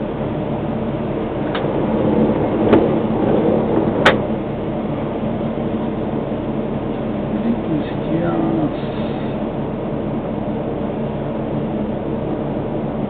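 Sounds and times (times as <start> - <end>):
road traffic: 0.0 - 13.0
tram interior hum and rumble: 0.0 - 13.0.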